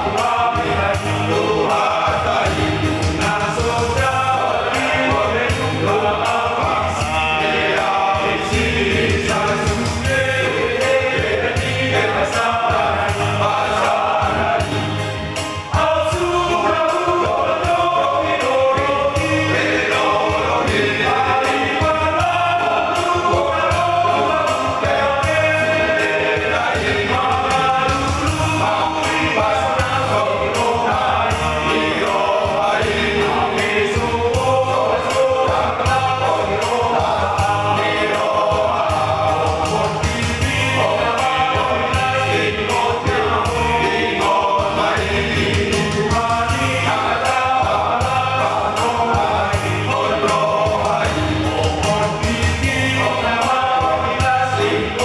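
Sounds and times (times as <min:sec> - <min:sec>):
choir singing: 0:00.0 - 0:55.0
musical accompaniment: 0:00.0 - 0:55.0.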